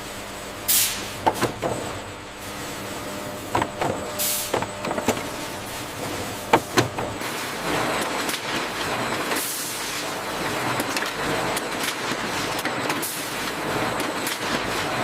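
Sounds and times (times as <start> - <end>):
mechanical running noise: 1.0 - 15.0.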